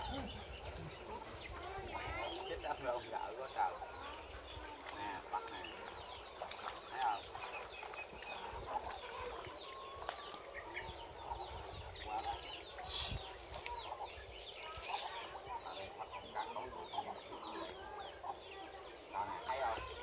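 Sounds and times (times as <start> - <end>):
poultry peeping chirps: 0.0 - 20.0.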